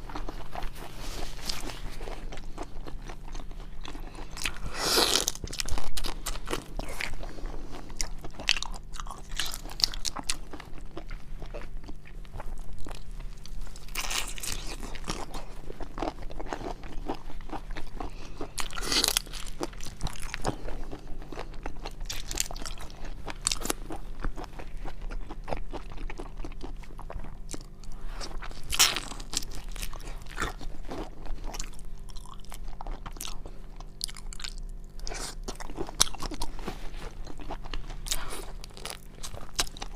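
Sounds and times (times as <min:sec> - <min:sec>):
faint hum: 0:00.0 - 0:39.9
wet chewing and crunching: 0:00.0 - 0:39.9.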